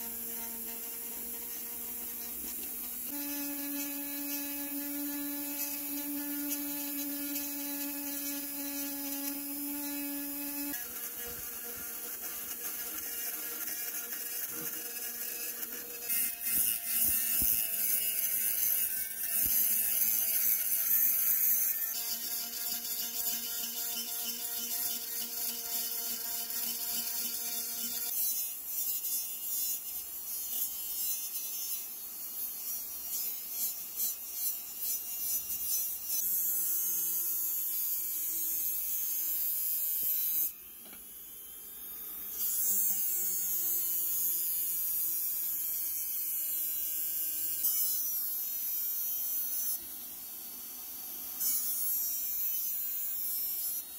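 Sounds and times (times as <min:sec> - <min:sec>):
rotary tool grinding sheet metal: 0:00.0 - 0:41.5, 0:42.2 - 0:50.0, 0:51.2 - 0:53.9.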